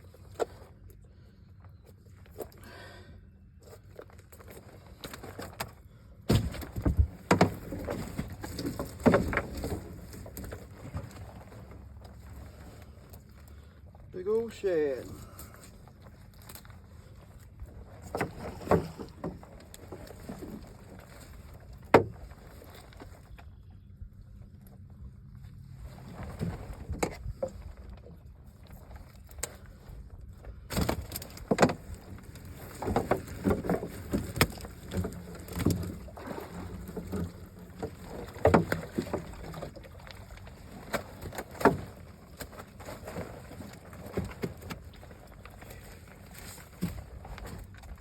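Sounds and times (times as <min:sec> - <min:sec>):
low steady rumble: 0:00.0 - 0:48.0
knocks and clatter in boat: 0:03.7 - 0:13.5, 0:14.3 - 0:48.0.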